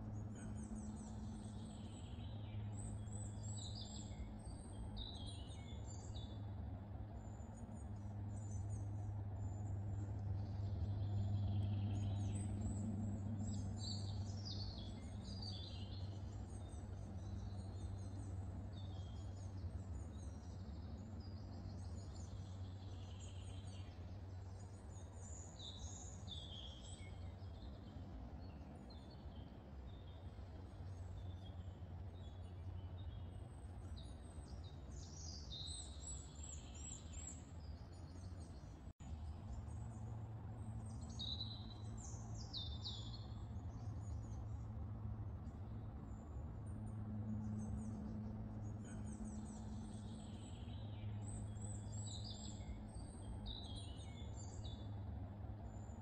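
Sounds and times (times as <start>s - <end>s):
low background rumble: 0.0s - 56.0s
songbirds singing and chirping: 0.0s - 56.0s.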